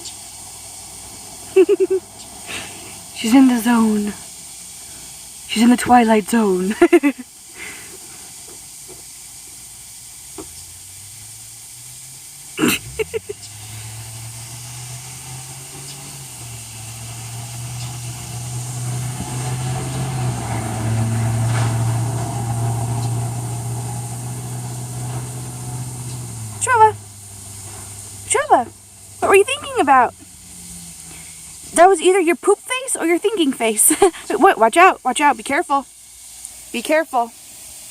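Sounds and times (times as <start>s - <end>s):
vehicle engine hum passing by: 0.0s - 7.3s, 8.0s - 37.9s
steady hiss: 0.0s - 37.9s.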